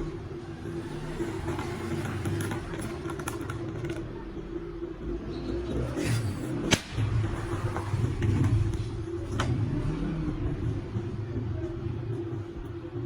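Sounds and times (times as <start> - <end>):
machine rumble and hum: 0.0 - 13.0.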